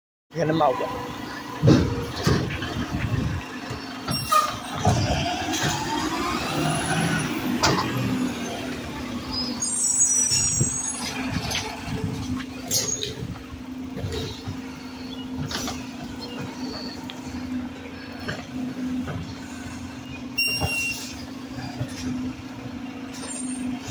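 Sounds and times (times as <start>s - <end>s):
garbage truck engine humming: 0.4s - 23.9s.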